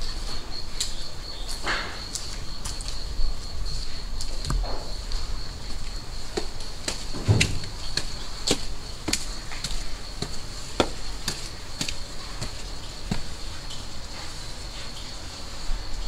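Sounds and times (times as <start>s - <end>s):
high insect drone: 0.0s - 16.0s
footsteps on stone steps: 0.8s - 14.6s.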